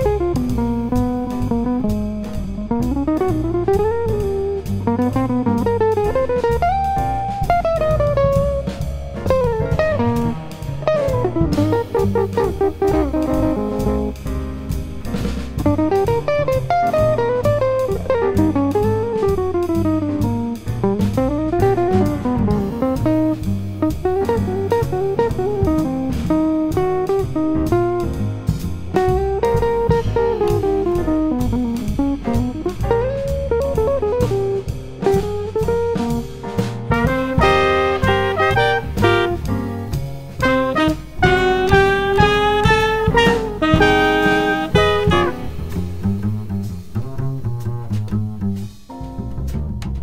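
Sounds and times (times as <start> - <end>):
double bass: 0.0 - 50.0
drums swing groove: 0.0 - 50.0
jazz guitar solo: 0.0 - 50.0.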